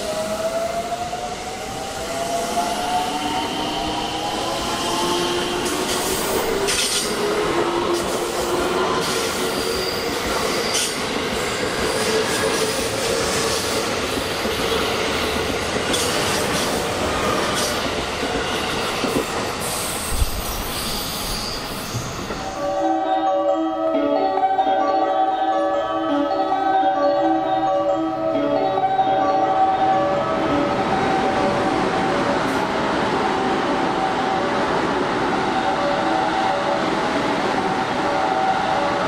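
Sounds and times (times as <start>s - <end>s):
electric train running rumble: 0.0s - 39.0s.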